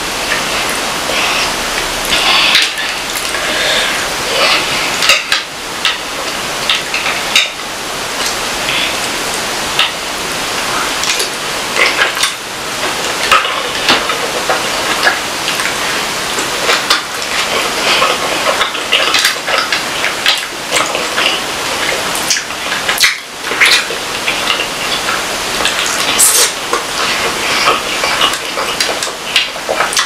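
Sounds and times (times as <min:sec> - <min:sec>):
person chewing: 0:00.1 - 0:07.6, 0:08.2 - 0:30.0.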